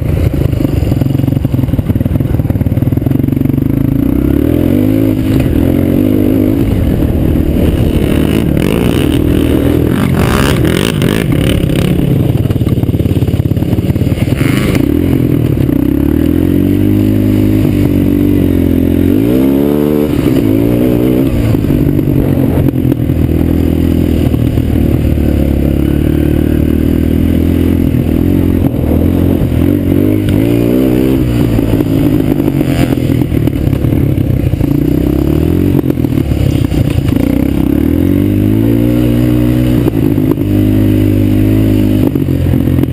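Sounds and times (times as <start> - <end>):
quad bike engine revving: 0.0 - 42.9.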